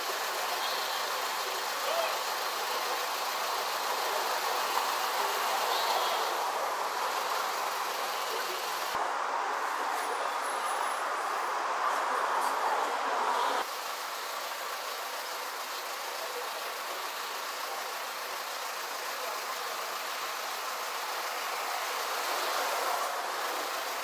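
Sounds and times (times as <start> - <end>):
street ambience hiss: 0.0 - 24.0.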